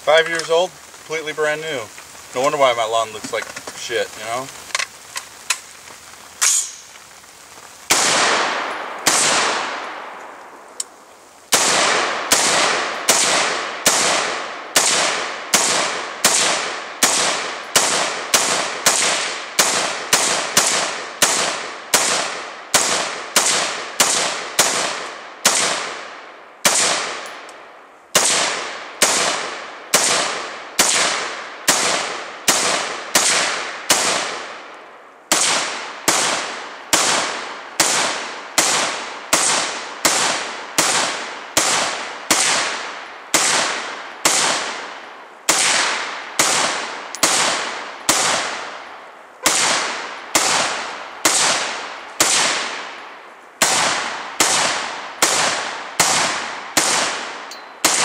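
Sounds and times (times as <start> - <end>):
rifle shots echoing: 6.4 - 7.0, 7.9 - 10.6, 11.5 - 27.5, 28.1 - 34.7, 35.3 - 58.0.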